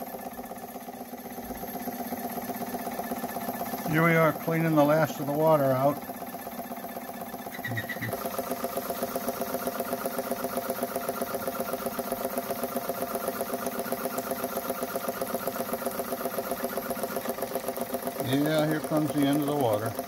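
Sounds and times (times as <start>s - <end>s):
toy steam engine running: 0.0s - 20.0s.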